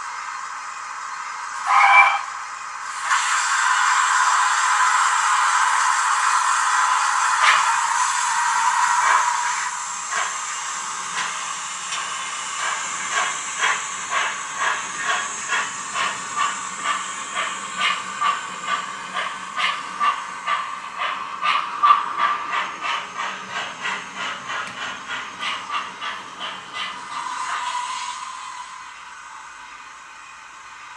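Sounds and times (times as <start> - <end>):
steam hiss: 0.0 - 30.9
steam engine exhaust chuffs: 2.9 - 28.9.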